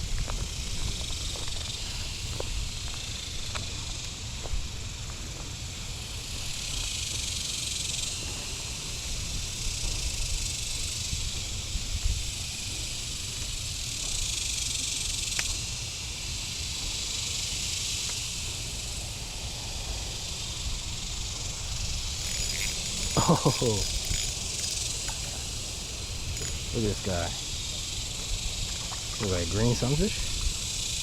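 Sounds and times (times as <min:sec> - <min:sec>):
cicadas droning: 0:00.0 - 0:31.0.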